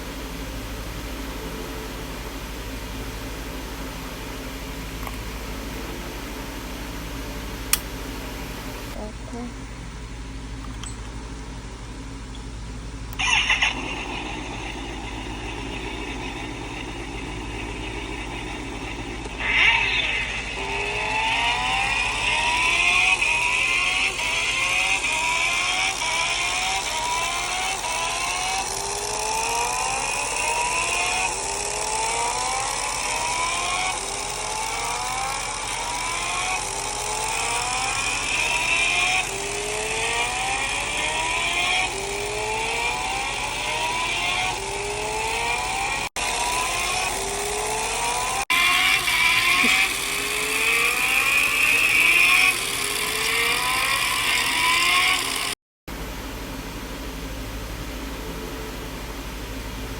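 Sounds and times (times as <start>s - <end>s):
simulated motorcycle engine revving: 0.0s - 9.0s, 13.1s - 55.6s.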